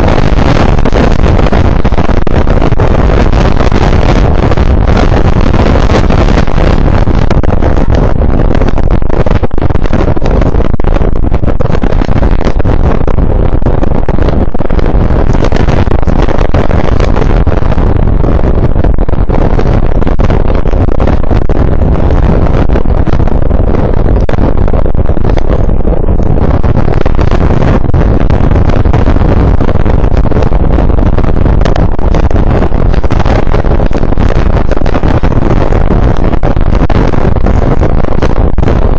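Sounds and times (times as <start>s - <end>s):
strong wind on microphone: 0.0s - 38.9s.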